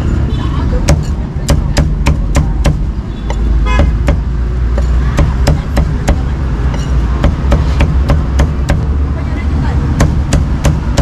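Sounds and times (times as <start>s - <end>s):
cleaver chopping on wooden block: 0.9s - 8.9s, 10.0s - 11.0s.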